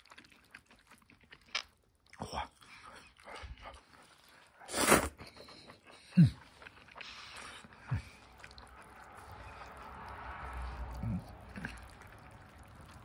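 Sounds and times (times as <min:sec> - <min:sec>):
noodles slurped: 0:00.0 - 0:13.0.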